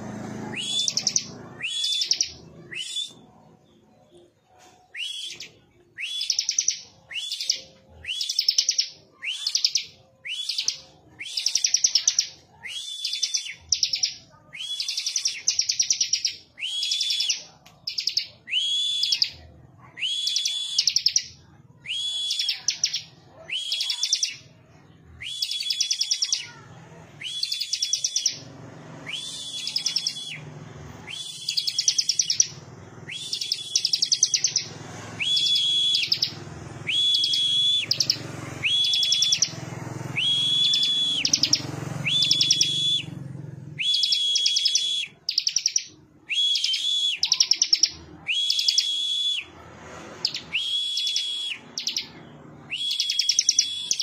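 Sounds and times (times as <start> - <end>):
bird chattering trill: 0.5 - 3.3, 5.1 - 19.4, 22.0 - 24.5, 25.2 - 28.5, 29.1 - 30.4, 31.0 - 39.6, 40.2 - 43.2, 43.8 - 49.0, 50.2 - 54.0.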